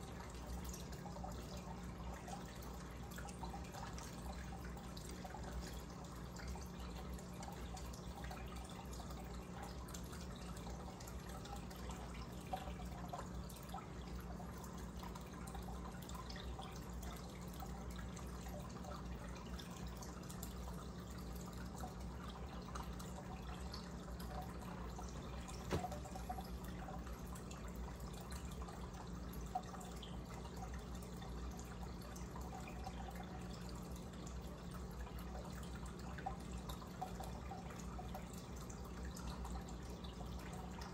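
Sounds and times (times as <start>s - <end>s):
aquarium air stone bubbling: 0.0s - 40.9s.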